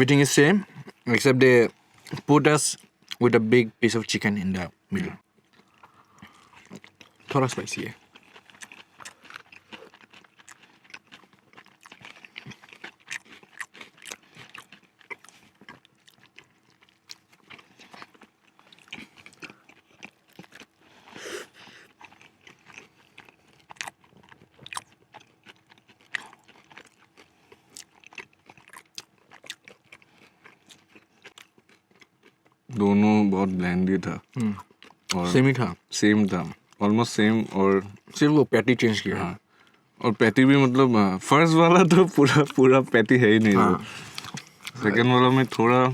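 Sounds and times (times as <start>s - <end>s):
people chewing crispy food: 0.0s - 45.9s.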